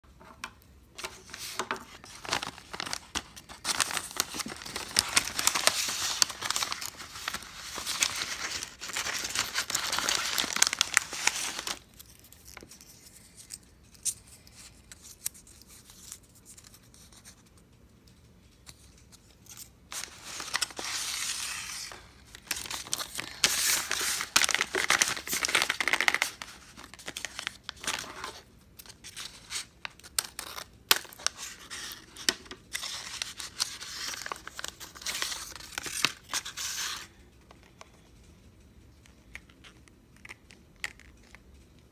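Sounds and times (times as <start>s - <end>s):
paper crinkling and tearing: 1.0s - 17.4s, 18.7s - 37.1s.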